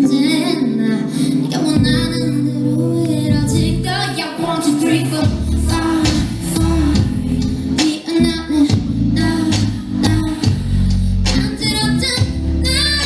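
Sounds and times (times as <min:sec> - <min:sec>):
woman singing pop song: 0:00.0 - 0:13.0
low bass: 0:01.5 - 0:13.0.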